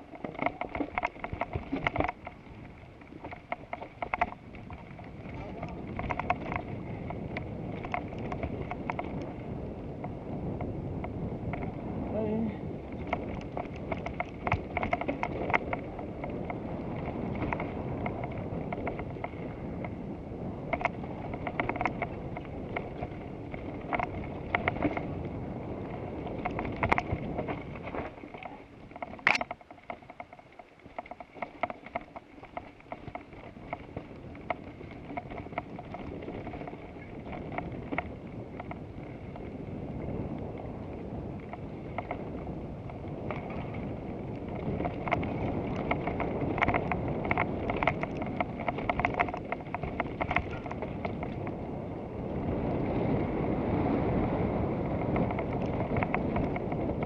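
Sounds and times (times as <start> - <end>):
sharp clicks and rattles: 0.0 - 11.8, 12.9 - 20.0, 20.6 - 39.6, 41.4 - 51.6, 55.0 - 57.0
bike tyre rumble: 0.0 - 57.0
wind on microphone: 0.0 - 57.0.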